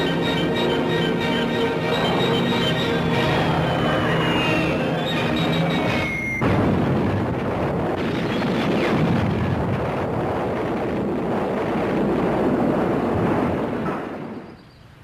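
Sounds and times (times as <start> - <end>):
battle fire and bombardment roar: 1.8 - 14.3.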